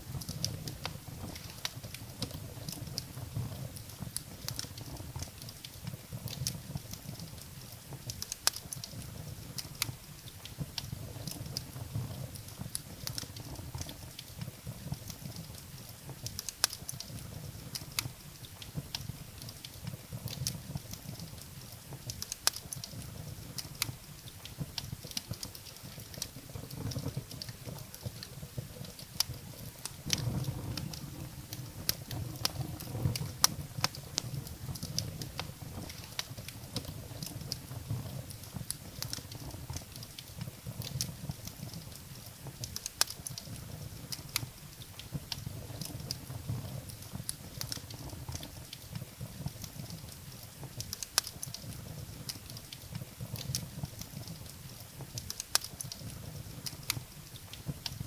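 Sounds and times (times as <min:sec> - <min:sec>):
firewood crackling and popping: 0:00.0 - 0:58.0
low rushing of flames: 0:00.0 - 0:58.0.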